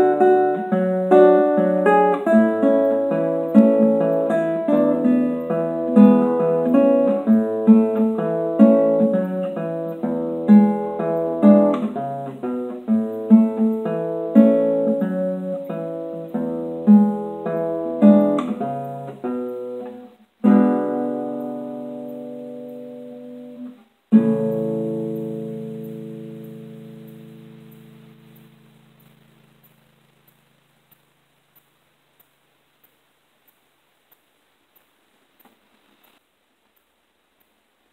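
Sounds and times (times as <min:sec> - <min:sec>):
solo classical guitar: 0:00.0 - 0:31.0.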